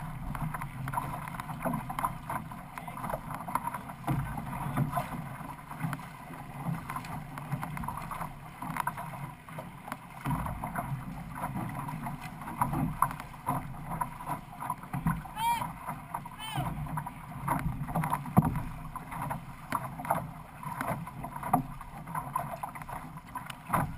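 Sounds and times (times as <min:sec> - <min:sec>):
paddle strokes: 0:00.0 - 0:23.9
water splashing against hull: 0:00.0 - 0:23.9.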